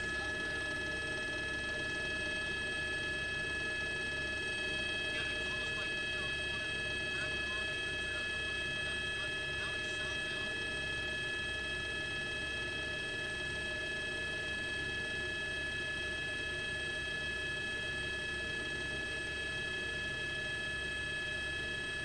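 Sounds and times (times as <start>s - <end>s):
steady high-pitched whine: 0.0s - 22.0s.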